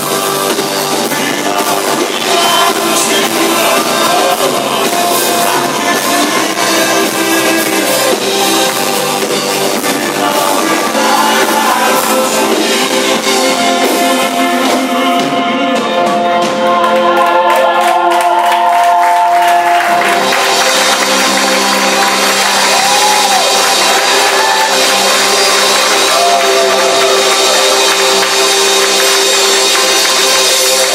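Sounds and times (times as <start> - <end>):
live rock band playing: 0.0 - 30.9
person singing: 0.0 - 30.9.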